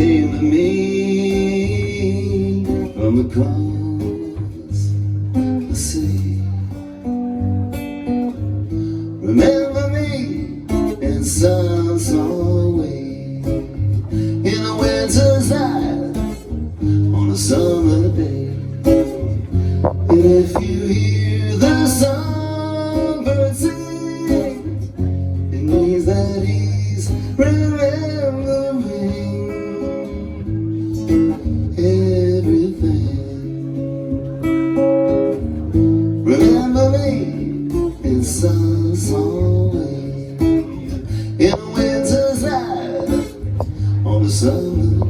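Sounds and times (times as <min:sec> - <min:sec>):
acoustic guitar strummed and picked: 0:00.0 - 0:45.0.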